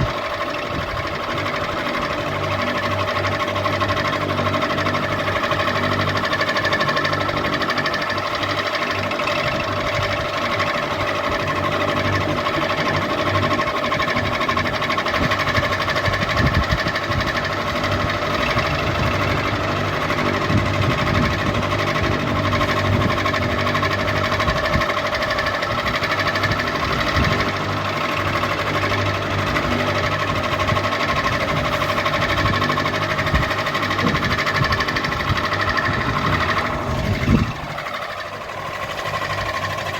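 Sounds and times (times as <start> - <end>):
ceiling fan motor hum: 0.0 - 39.9
fast mechanical rattle: 0.0 - 39.9.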